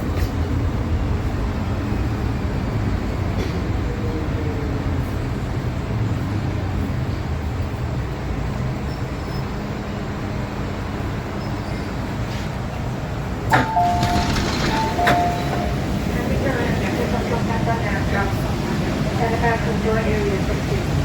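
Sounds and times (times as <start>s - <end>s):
train rumbling in tunnel: 0.0s - 21.0s.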